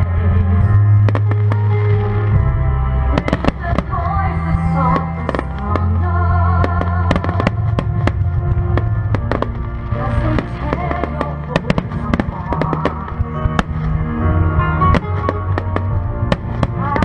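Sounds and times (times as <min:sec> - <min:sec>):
fireworks bangs and crackles: 0:00.0 - 0:17.0
loud music: 0:00.0 - 0:17.0.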